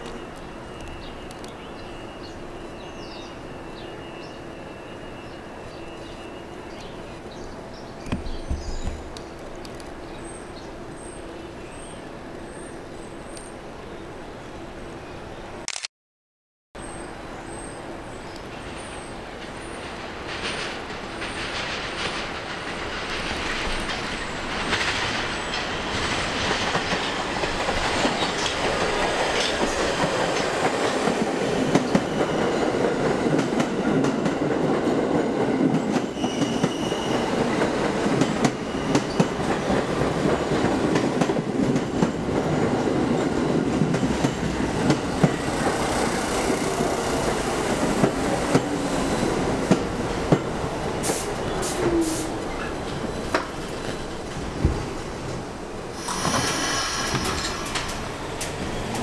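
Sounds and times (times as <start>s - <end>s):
subway train rumbling on rails: 0.0s - 15.3s, 16.8s - 59.0s.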